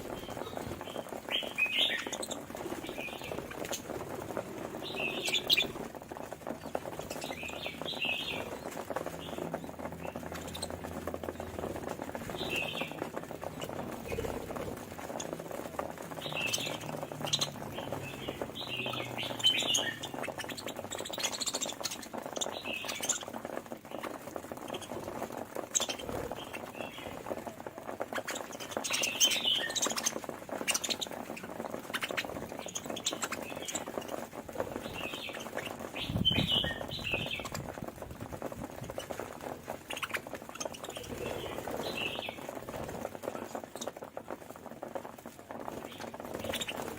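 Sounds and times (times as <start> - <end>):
budgerigars chirping and chattering: 0.0 - 38.0, 38.7 - 44.1, 45.7 - 46.9
light ticks and scratches: 0.0 - 46.9.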